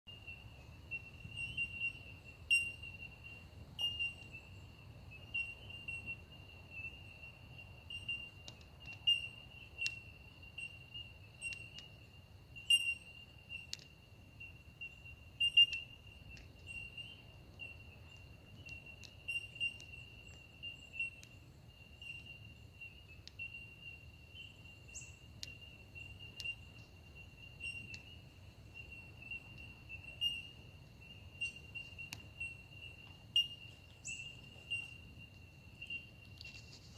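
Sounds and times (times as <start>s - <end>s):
insect chorus trilling: 0.1s - 36.9s.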